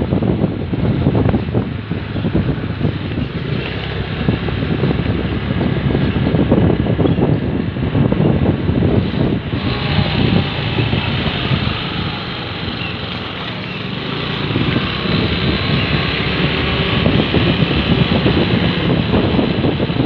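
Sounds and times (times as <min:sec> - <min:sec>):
motorbike running and road noise: 0:00.0 - 0:20.0
wind buffeting microphone: 0:00.0 - 0:20.0.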